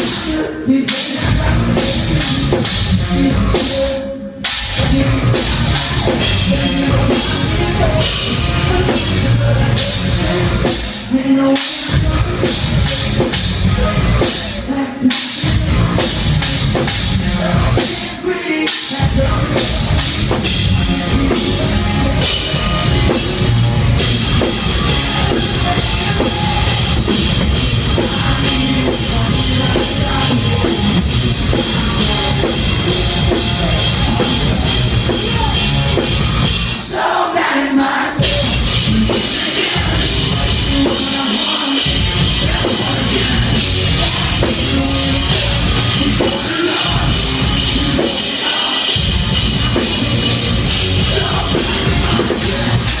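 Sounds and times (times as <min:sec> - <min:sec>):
drum kit: 0:00.0 - 0:37.5, 0:38.1 - 0:53.0
heavy guitars: 0:00.0 - 0:53.0
metalcore band playing live: 0:00.0 - 0:53.0.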